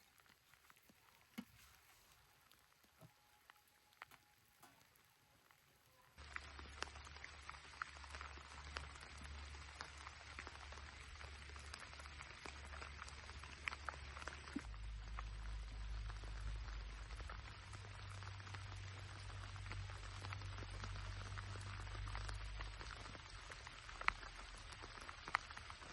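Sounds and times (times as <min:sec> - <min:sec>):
raindrops ticking: 0:00.0 - 0:25.9
steady rain falling: 0:00.0 - 0:25.9
low steady hum: 0:00.8 - 0:25.9.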